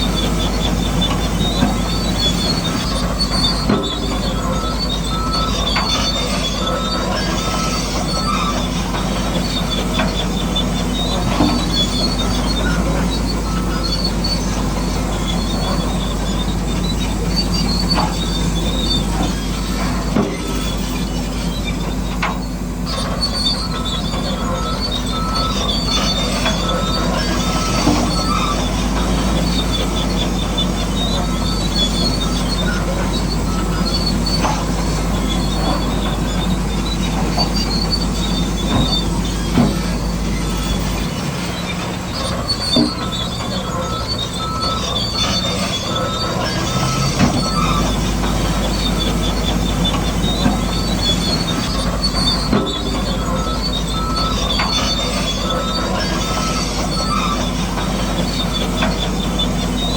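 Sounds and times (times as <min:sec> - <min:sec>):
electric motors whining: 0:00.0 - 0:59.9
high squeaks: 0:00.0 - 0:59.9.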